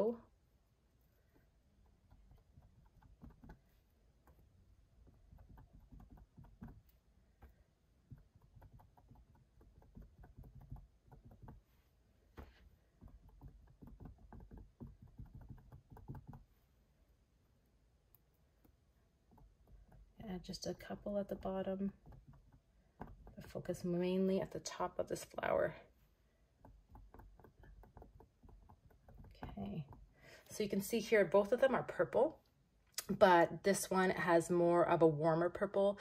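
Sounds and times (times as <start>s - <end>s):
swab dabbing paint on canvas: 0.3s - 25.8s, 26.4s - 30.9s.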